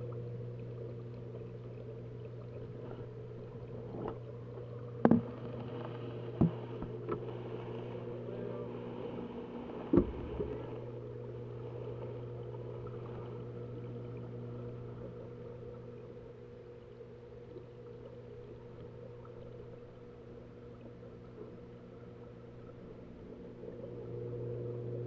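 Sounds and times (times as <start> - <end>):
aquarium equipment humming: 0.0 - 25.0.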